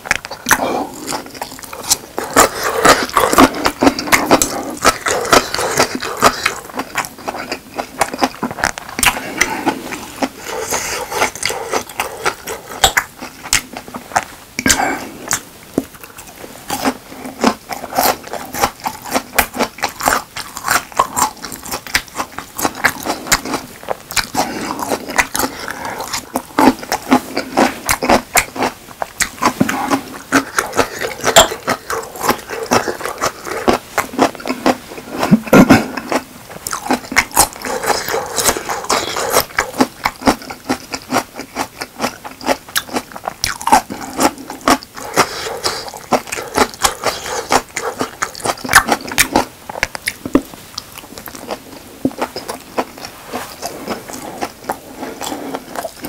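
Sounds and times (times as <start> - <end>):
close-miked chewing and mouth clicks: 0.0 - 56.0.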